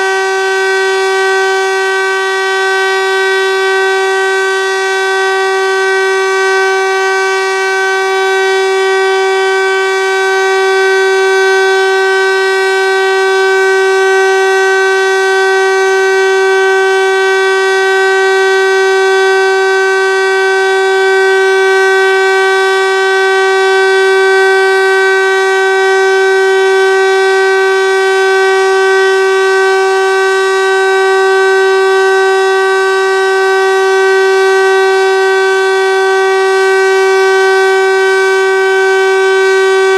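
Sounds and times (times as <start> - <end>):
motor siren steady tone: 0.0 - 39.9.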